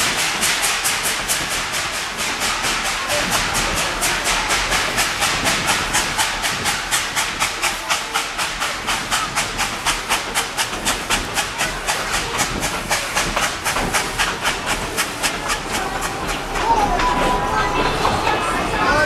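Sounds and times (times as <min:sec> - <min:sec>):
steam locomotive exhaust chuffing: 0:00.0 - 0:19.0.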